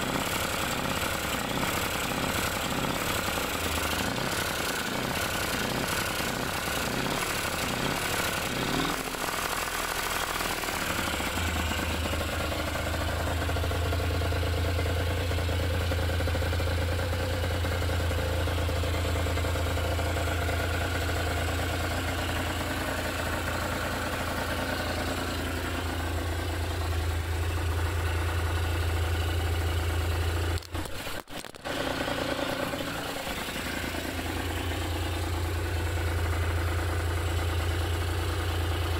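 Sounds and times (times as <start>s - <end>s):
two-stroke engine idling: 0.0s - 38.9s.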